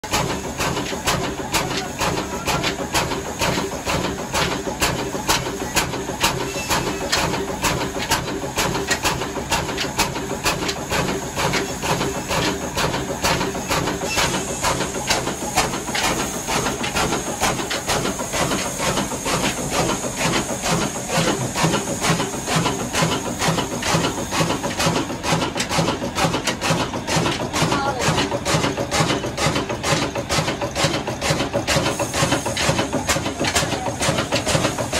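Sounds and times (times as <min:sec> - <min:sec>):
diesel engine knocking: 0:00.0 - 0:34.9
hissing exhaust: 0:00.1 - 0:34.9.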